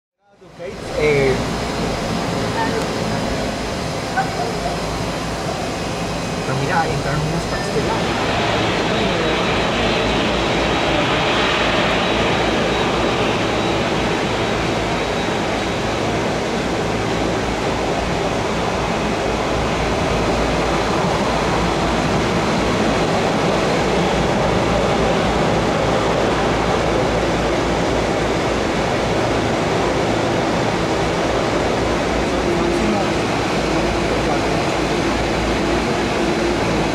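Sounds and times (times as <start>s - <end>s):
jet engines idling: 0.3s - 36.9s.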